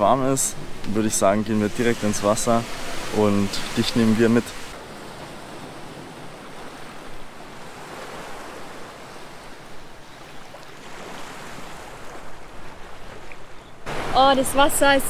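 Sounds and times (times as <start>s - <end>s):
small waves lapping at shore: 0.0s - 15.0s.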